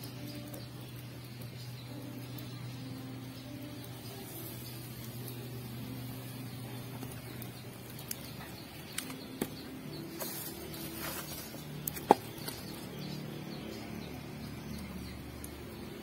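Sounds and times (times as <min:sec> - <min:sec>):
fire crackling and popping: 0:00.0 - 0:16.0
steady low hum: 0:00.0 - 0:16.0.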